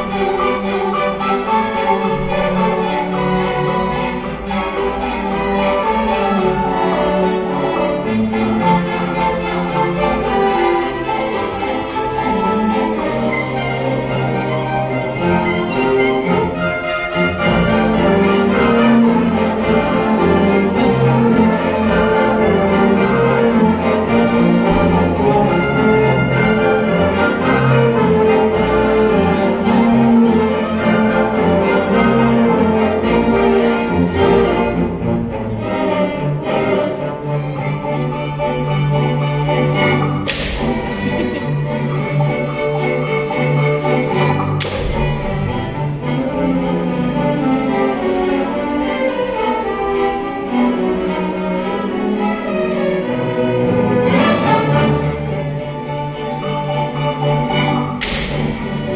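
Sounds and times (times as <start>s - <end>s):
orchestra of strings and winds: 0.0s - 58.9s.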